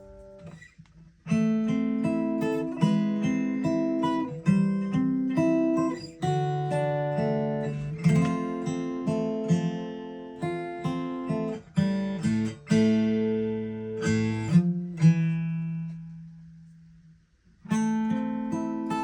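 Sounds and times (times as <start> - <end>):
acoustic guitar plucked chords: 0.0 - 19.0.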